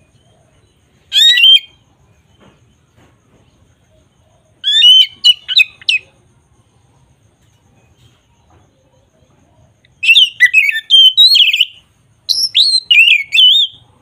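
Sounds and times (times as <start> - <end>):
bird calls: 0.0 - 6.2, 7.4 - 14.0.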